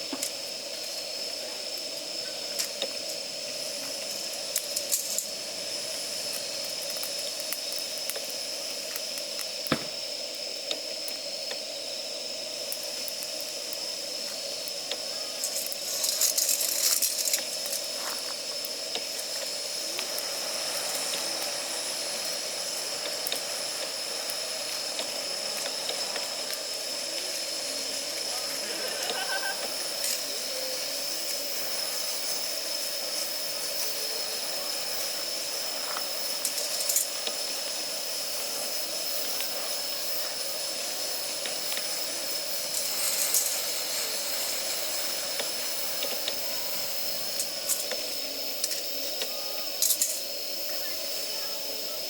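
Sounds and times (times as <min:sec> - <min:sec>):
fire crackling and popping: 0:00.0 - 0:52.0
wet wood fire hissing: 0:00.0 - 0:52.0.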